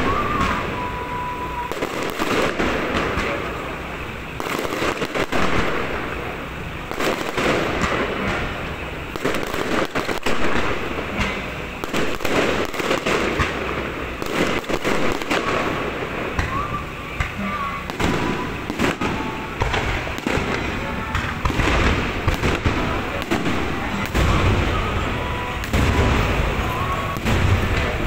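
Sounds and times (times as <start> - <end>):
firecrackers crackling: 0.0 - 28.0
fireworks bangs: 0.0 - 28.0.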